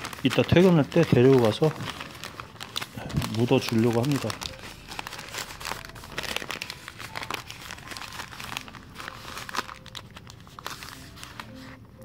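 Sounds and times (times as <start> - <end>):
newspaper crinkling and crumpling: 0.0 - 12.0.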